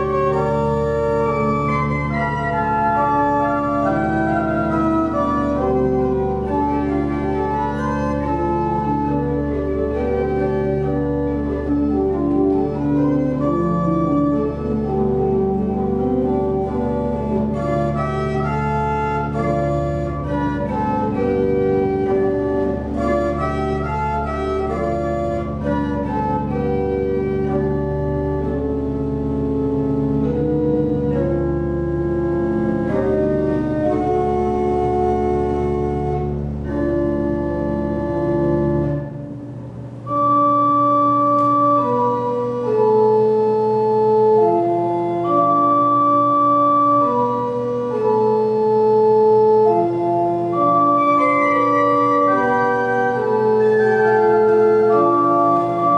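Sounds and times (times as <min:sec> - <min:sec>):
pipe organ playing a hymn: 0:00.0 - 0:55.9.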